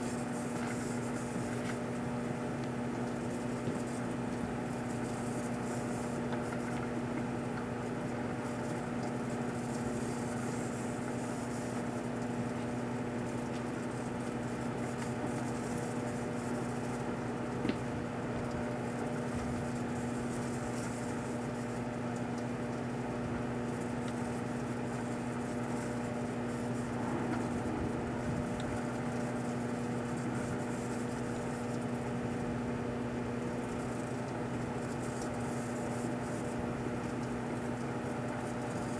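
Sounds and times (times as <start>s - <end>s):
microwave oven humming: 0.0s - 38.9s.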